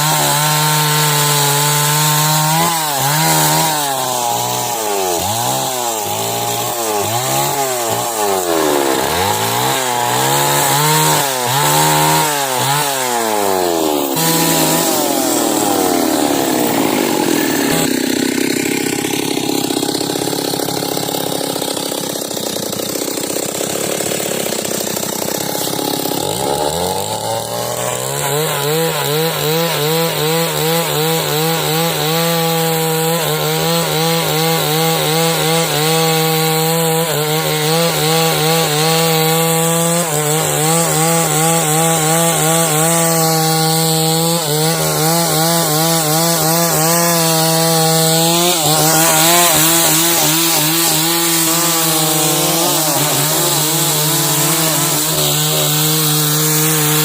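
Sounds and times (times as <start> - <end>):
chainsaw sawing timber: 0.0 - 57.0.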